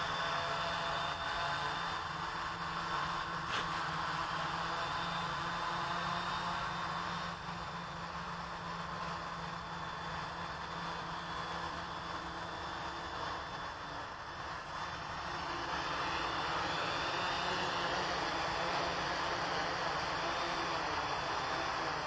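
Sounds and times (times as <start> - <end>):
quadcopter motors humming: 0.0 - 22.0.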